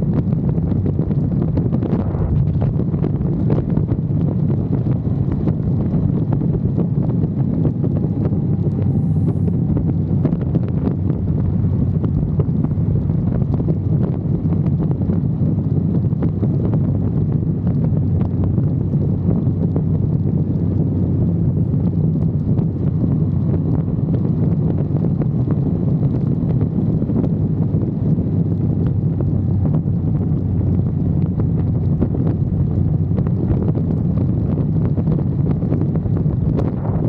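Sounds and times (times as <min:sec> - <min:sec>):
low motorcycle drone: 0:00.0 - 0:37.0
wind rushing on microphone: 0:00.0 - 0:37.0.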